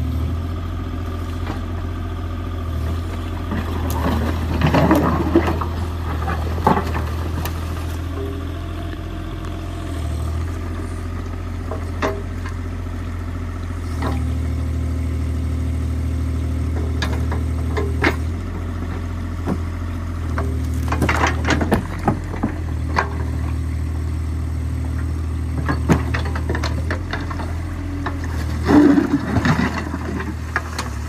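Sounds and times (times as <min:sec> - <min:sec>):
excavator diesel engine running: 0:00.0 - 0:31.0
excavator bucket digging: 0:00.2 - 0:14.8, 0:16.6 - 0:23.9, 0:24.8 - 0:31.0.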